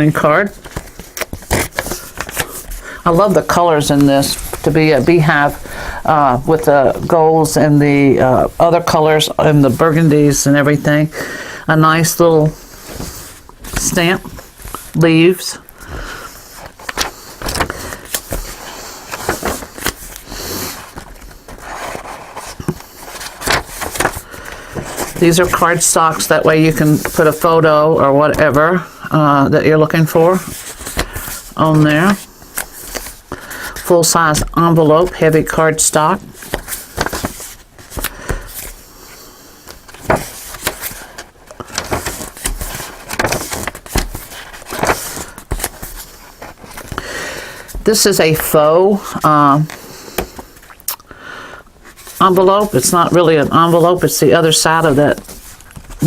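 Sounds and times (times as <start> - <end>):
paper pages rustling and crinkling: 0.0 - 10.9, 11.9 - 28.7, 29.9 - 50.8, 51.8 - 56.0.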